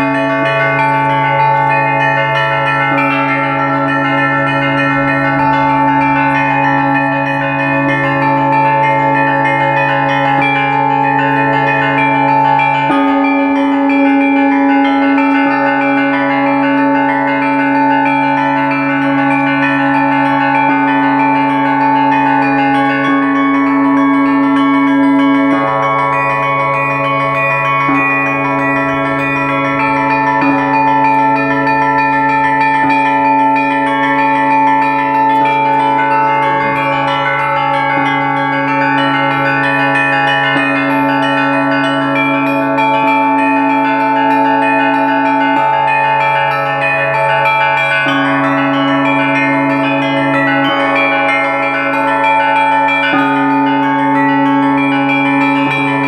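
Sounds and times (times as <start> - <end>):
deep bells ringing: 0.0 - 56.0
small bells struck rapidly: 0.0 - 56.0.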